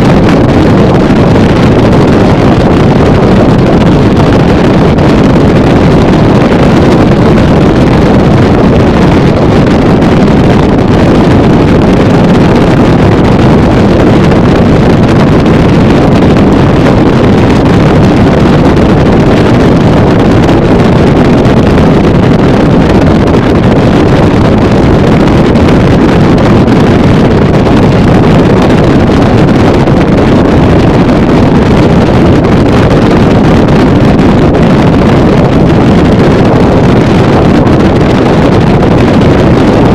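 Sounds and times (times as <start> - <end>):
motorboat motor and hull noise: 0.0 - 39.9
wind rush on microphone: 0.0 - 39.9.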